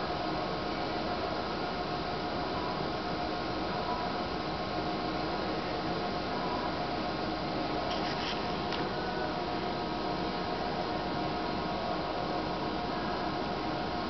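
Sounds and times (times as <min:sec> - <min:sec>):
machine fans humming: 0:00.0 - 0:14.0.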